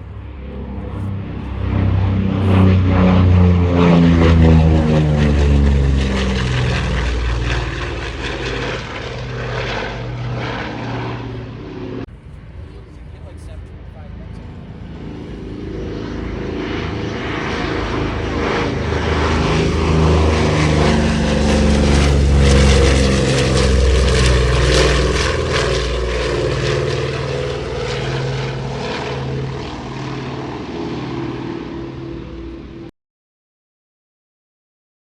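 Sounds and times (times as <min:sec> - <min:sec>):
propeller aircraft flyby: 0:00.0 - 0:32.9.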